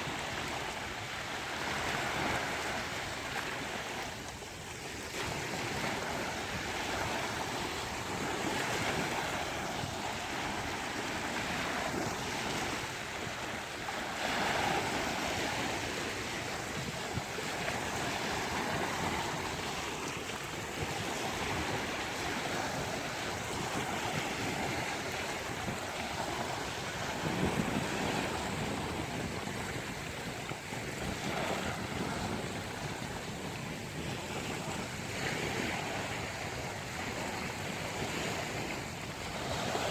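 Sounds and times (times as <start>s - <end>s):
waves breaking on a beach: 0.0s - 39.9s
wind: 0.0s - 39.9s.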